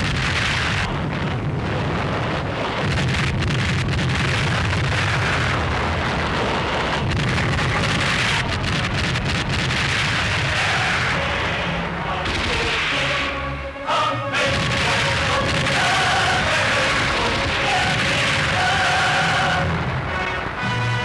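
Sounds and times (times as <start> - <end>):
artillery and rocket fire din: 0.0 - 13.4, 14.4 - 20.6.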